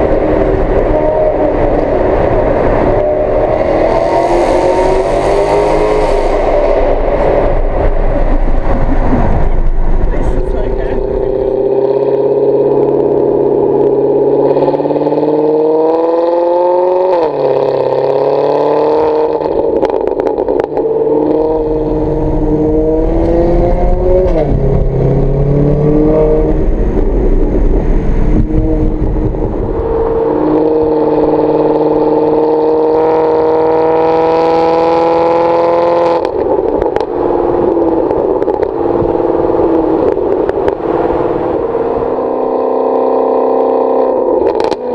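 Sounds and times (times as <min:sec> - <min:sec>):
car engine accelerating through gears: 0:00.0 - 0:44.9.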